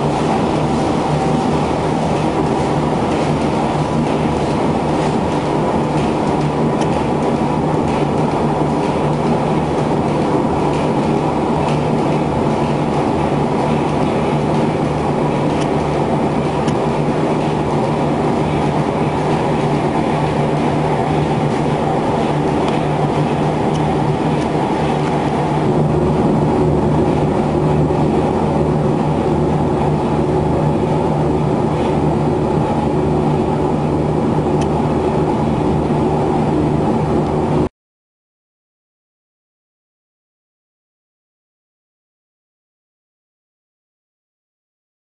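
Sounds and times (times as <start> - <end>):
steam engine running: 0.0 - 37.6
constant low hum: 0.0 - 37.7.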